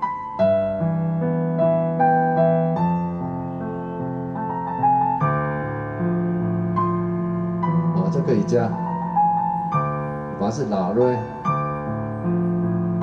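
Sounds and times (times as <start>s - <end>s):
piano melody over chords: 0.0s - 13.0s.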